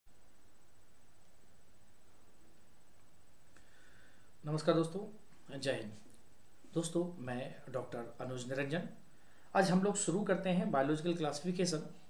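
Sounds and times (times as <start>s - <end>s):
faint hiss: 0.1s - 12.0s.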